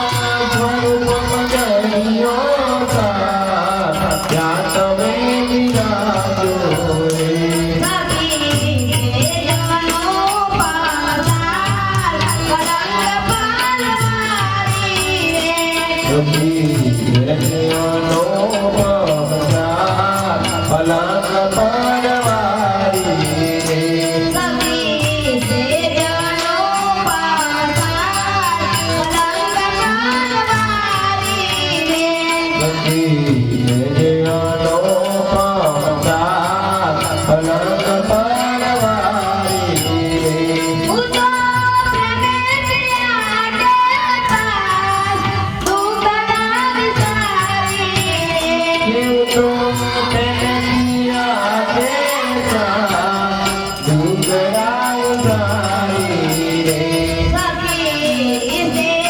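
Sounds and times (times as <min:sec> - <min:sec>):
devotional song singing: 0:00.0 - 0:59.0
instrumental accompaniment: 0:00.0 - 0:59.0
steady percussion beat: 0:00.0 - 0:59.0.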